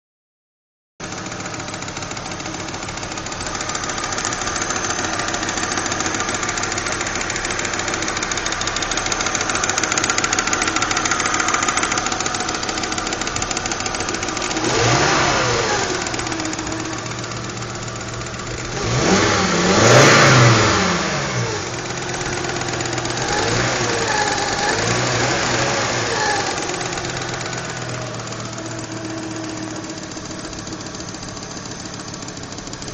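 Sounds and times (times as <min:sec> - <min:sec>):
car engine idling with ticking: 0:01.0 - 0:32.9
car engine revving: 0:01.2 - 0:32.9.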